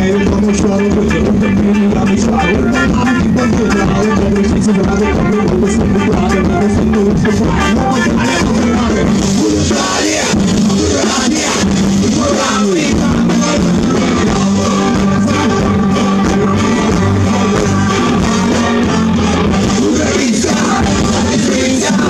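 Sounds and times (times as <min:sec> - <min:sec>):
drums: 0:00.0 - 0:22.0
electric guitars: 0:00.0 - 0:22.0
keyboard: 0:00.0 - 0:22.0
man singing into a microphone: 0:00.0 - 0:22.0.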